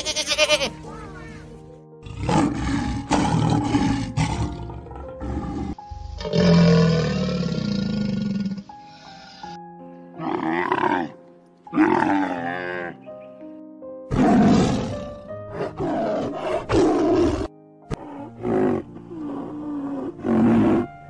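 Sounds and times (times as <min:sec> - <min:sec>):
light background music: 0:00.0 - 0:21.0
tiger roaring and growling: 0:02.0 - 0:09.6, 0:10.2 - 0:13.0, 0:14.1 - 0:20.9.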